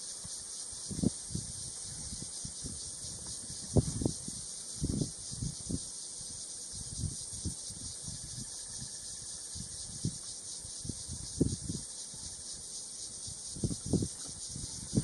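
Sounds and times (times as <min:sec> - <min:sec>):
insects droning in grass: 0:00.0 - 0:15.0.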